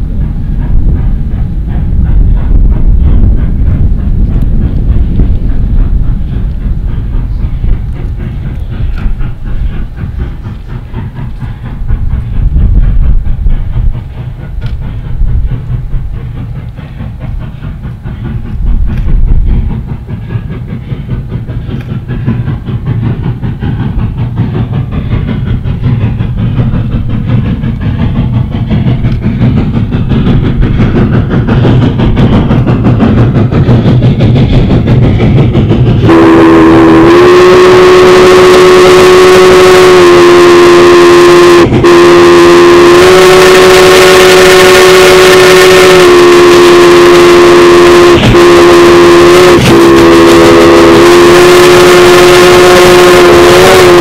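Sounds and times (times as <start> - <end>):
low rumble: 0.0 - 43.7
steam locomotive exhaust: 0.0 - 54.0.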